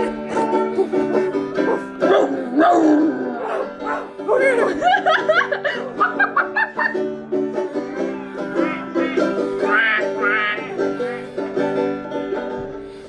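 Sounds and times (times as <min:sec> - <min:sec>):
live country band playing: 0:00.0 - 0:13.0
plucked strings picking quick notes: 0:00.0 - 0:13.0.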